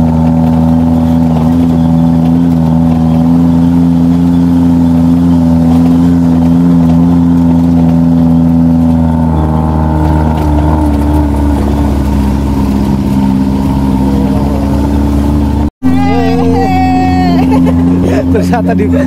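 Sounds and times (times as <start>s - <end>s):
jeep engine droning: 0.0s - 19.0s.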